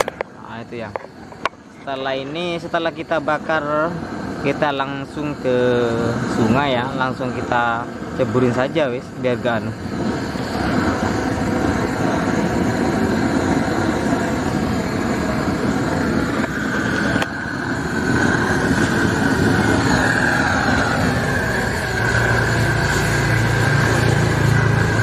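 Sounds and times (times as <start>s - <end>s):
burner torch flame: 0.0s - 25.0s
high-pitched hiss: 0.0s - 25.0s.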